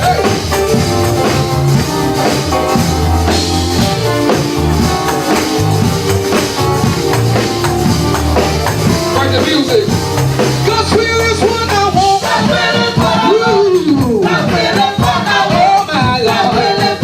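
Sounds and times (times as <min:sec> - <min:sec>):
gospel band playing: 0:00.0 - 0:17.0
steady drum beat: 0:00.0 - 0:17.0.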